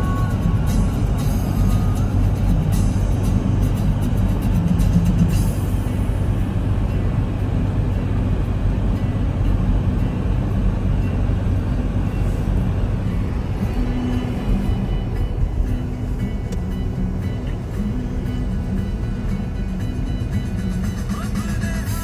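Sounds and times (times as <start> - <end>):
background music: 0.0 - 22.0
car road and engine noise: 0.0 - 22.0.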